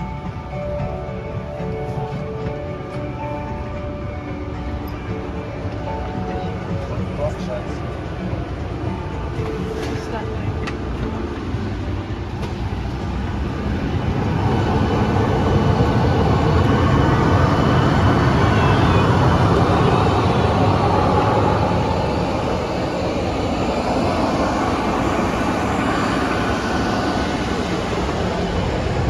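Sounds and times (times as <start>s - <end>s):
jet engine rumble: 0.0s - 29.0s.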